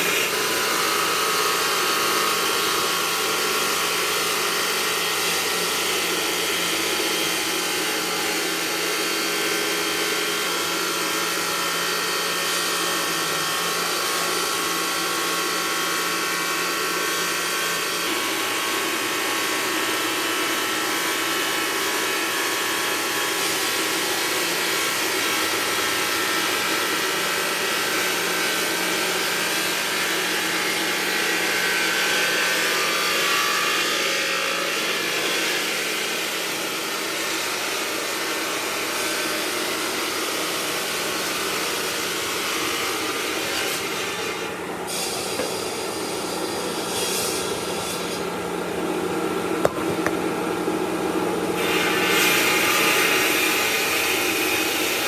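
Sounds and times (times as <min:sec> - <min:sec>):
stone-working machinery whining: 0:00.0 - 0:55.0.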